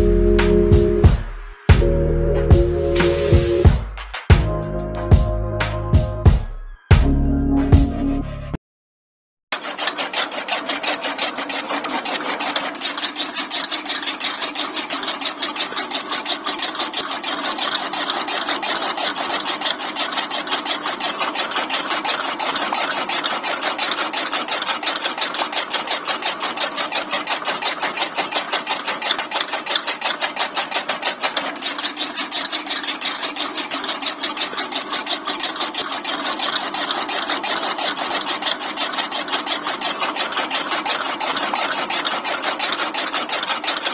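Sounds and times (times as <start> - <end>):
chaff cutter chopping grass: 0.0 - 4.5, 9.5 - 43.9.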